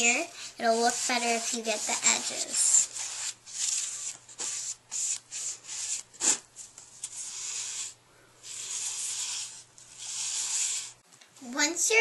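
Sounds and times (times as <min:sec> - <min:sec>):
paintbrush strokes on canvas: 0:00.0 - 0:11.0.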